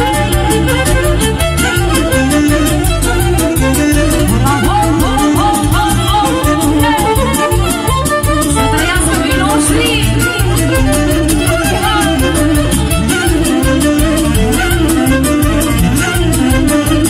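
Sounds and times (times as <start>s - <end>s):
live band playing folk dance music: 0.0s - 17.0s
saxophones playing ornamented melody: 0.0s - 17.0s.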